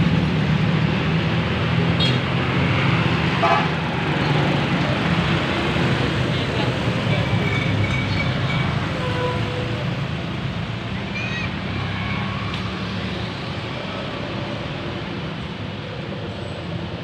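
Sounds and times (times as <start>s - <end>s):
passing vehicle engine rumble: 0.0s - 17.0s.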